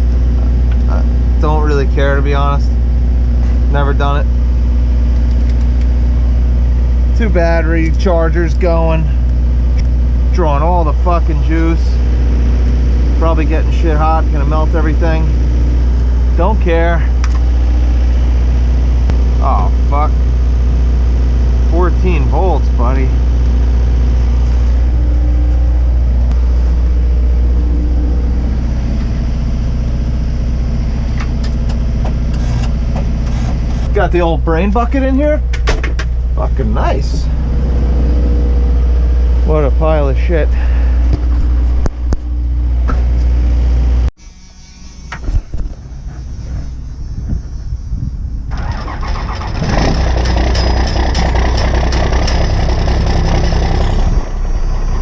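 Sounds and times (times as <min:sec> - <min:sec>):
diesel engine idling: 0:00.0 - 0:44.1, 0:45.2 - 0:55.0.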